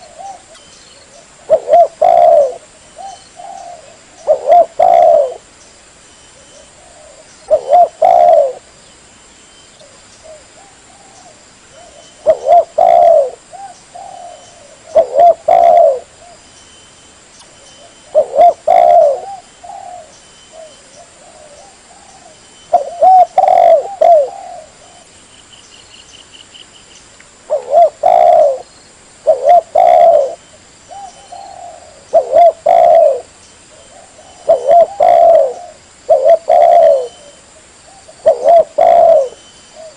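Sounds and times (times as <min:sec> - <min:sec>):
dove cooing: 0:00.0 - 0:05.5, 0:06.4 - 0:08.7, 0:09.8 - 0:16.5, 0:17.8 - 0:25.1, 0:27.5 - 0:39.9.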